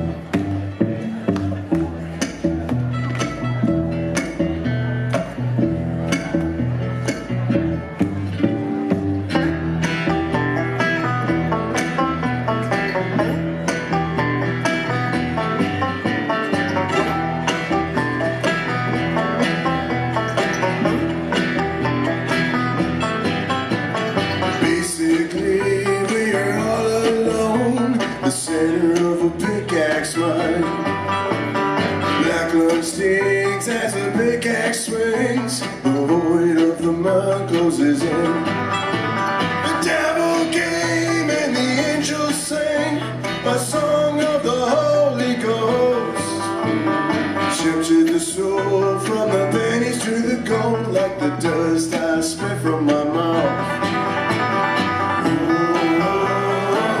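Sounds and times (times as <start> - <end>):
banjo: 0.0 - 57.0
plucked bass line: 0.0 - 57.0
strummed acoustic guitar: 0.0 - 57.0.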